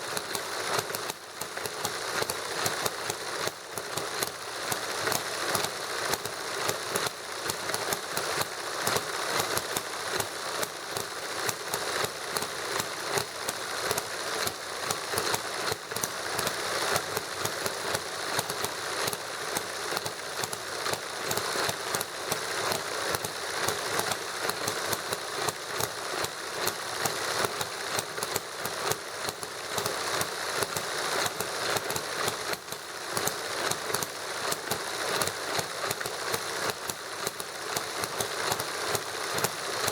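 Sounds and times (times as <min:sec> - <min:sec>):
small engine popping: 0:00.0 - 0:39.9
mechanical clatter: 0:00.1 - 0:39.9.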